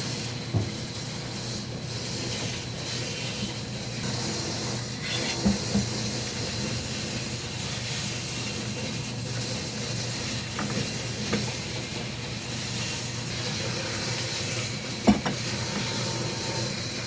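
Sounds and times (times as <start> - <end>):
machine running with hum and hiss: 0.0 - 17.0.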